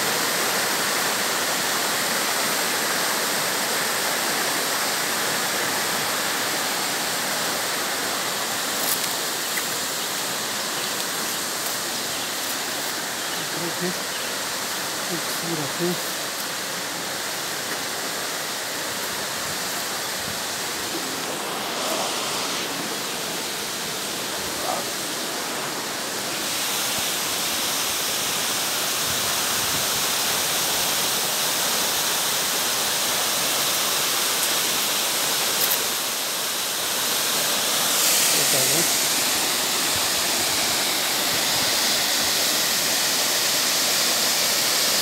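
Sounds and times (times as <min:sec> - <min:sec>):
water rushing from waterfall: 0:00.0 - 0:45.0.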